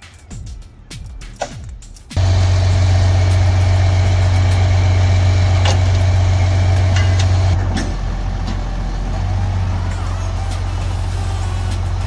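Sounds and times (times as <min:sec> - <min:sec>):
diesel engine droning: 0:02.2 - 0:12.0.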